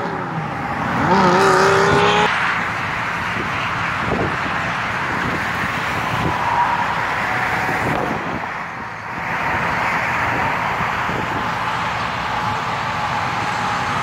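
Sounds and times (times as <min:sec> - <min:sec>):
road traffic hiss: 0:00.0 - 0:14.0.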